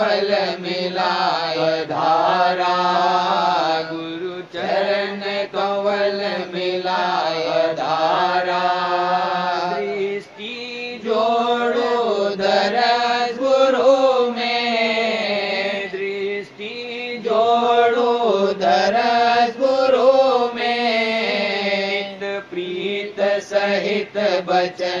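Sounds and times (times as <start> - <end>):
person singing a hymn: 0.0 - 25.0.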